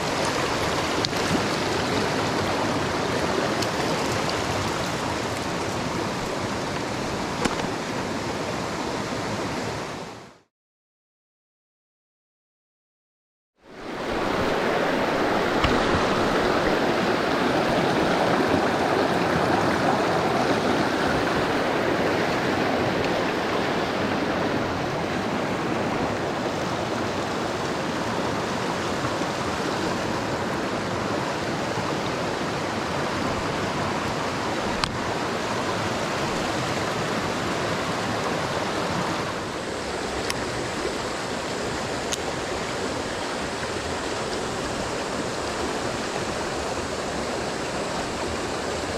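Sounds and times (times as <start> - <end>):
stream water rushing over rocks: 0.0 - 10.4, 13.7 - 48.9.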